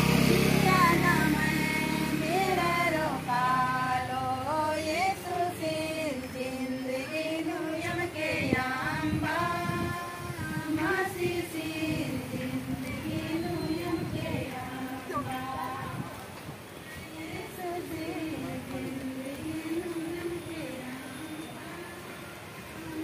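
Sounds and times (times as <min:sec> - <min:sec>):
women singing: 0:00.0 - 0:23.0.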